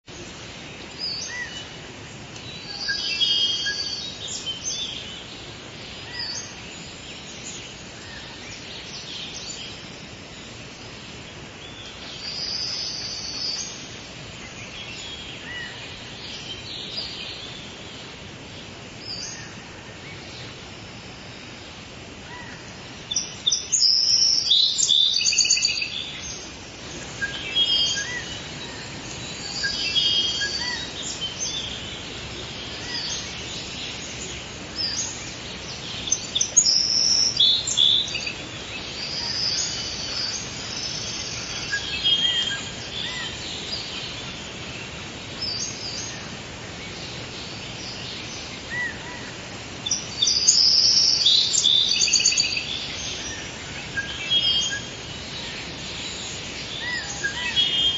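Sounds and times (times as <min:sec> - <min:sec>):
background hiss: 0:00.0 - 0:57.9
birds chirping and singing: 0:00.1 - 0:20.7, 0:21.9 - 0:57.9.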